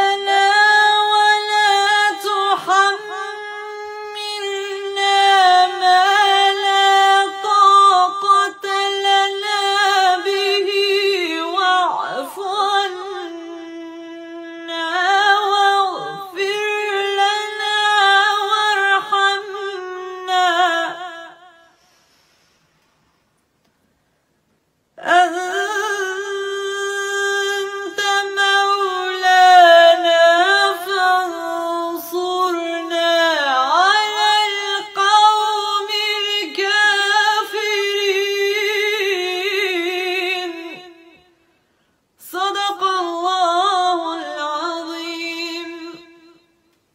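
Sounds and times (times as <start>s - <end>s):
woman chanting recitation: 0.0s - 21.8s, 25.0s - 41.4s, 42.2s - 46.4s.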